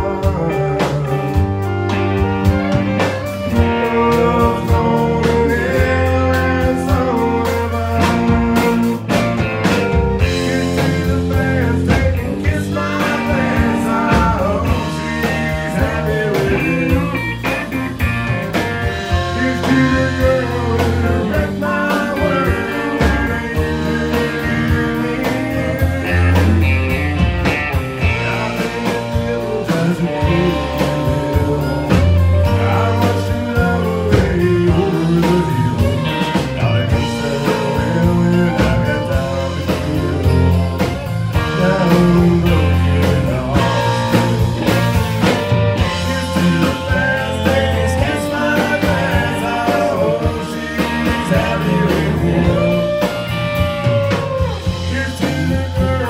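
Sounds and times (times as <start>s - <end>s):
drums: 0.0s - 56.0s
electric guitar: 0.0s - 56.0s
man singing: 0.0s - 56.0s.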